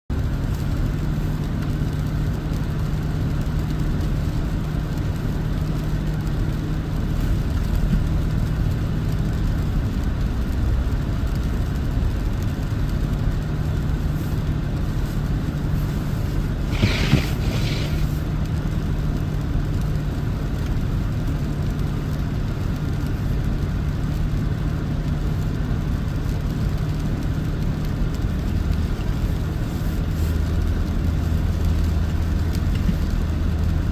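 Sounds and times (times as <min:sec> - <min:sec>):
car engine drone: 0:00.1 - 0:33.9
road and tyre noise: 0:00.1 - 0:33.9.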